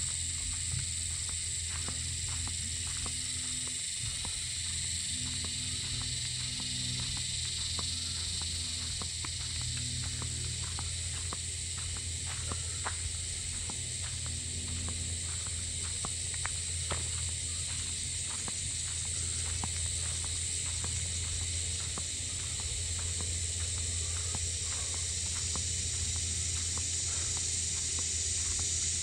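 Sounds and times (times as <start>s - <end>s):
footsteps crunching on dirt: 0.0s - 29.0s
insects droning: 0.0s - 29.0s.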